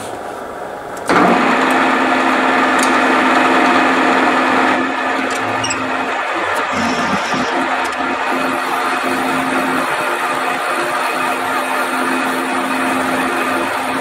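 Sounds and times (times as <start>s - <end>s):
milling machine humming and whining: 1.9s - 14.0s.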